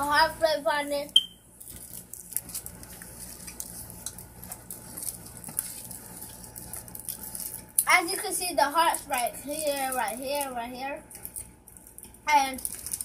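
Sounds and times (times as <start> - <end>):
candy packaging crinkling: 0.1 - 13.0.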